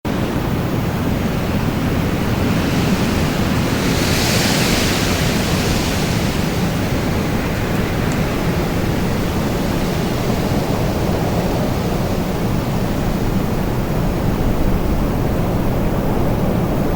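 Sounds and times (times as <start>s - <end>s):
wind blowing: 0.1s - 16.9s.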